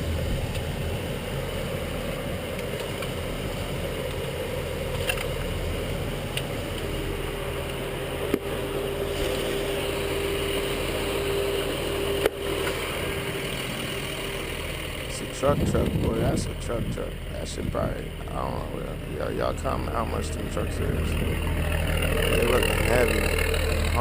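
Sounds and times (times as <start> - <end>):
steady whine: 0.0 - 24.0
truck engine running: 0.0 - 24.0.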